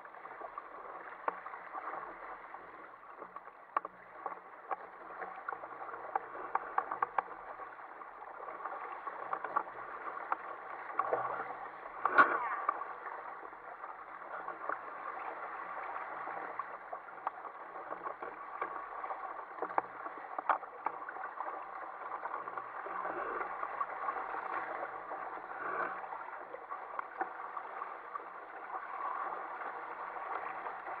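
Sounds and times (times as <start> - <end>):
water rushing along a hull: 0.0 - 31.0.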